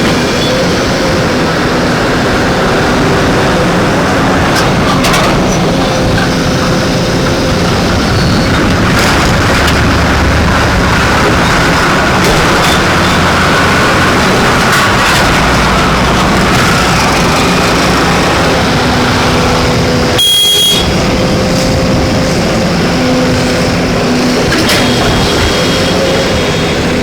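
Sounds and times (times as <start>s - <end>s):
excavator engine running: 0.0s - 27.0s.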